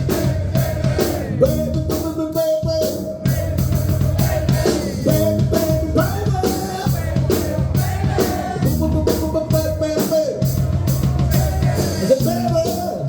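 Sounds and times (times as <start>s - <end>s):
drum kit beat: 0.0s - 13.0s
live rock band playing: 0.0s - 13.0s
person singing: 0.0s - 13.0s.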